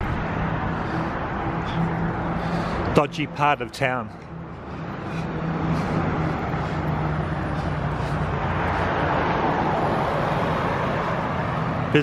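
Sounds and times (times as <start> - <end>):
road traffic engine hum: 0.0 - 12.0.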